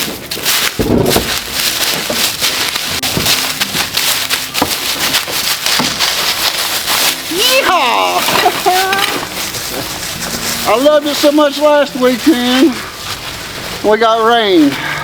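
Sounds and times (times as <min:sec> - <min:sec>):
rustling and crackling: 0:00.0 - 0:15.0.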